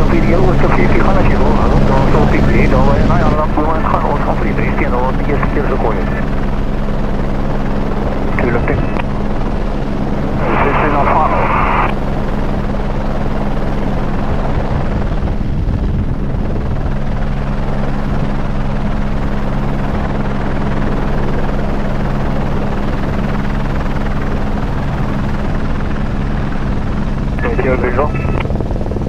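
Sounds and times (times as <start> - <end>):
helicopter rotor and turbine noise: 0.0 - 29.0.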